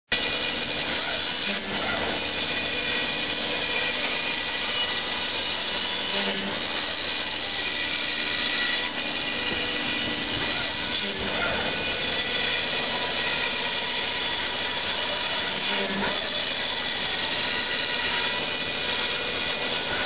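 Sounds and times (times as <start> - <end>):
router spindle whining: 0.1 - 20.0.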